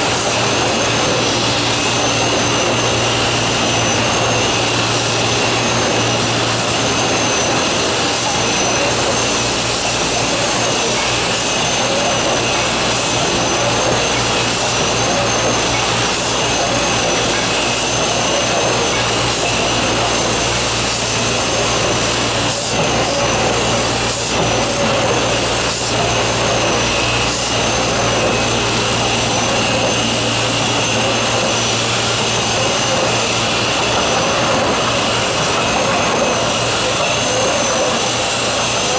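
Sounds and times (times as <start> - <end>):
high machine whine: 0.0 - 38.9
printing press running: 0.0 - 38.9.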